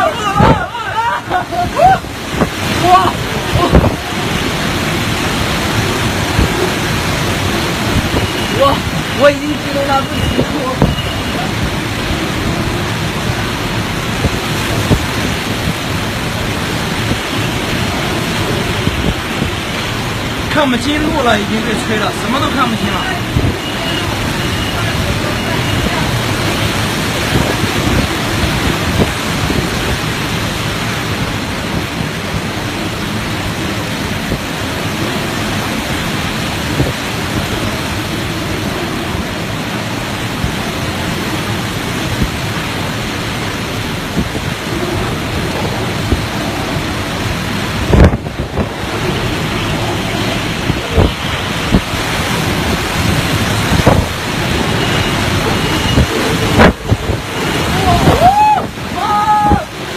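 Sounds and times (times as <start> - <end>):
driving rain: 0.0 - 59.9
hurricane wind: 0.0 - 59.9.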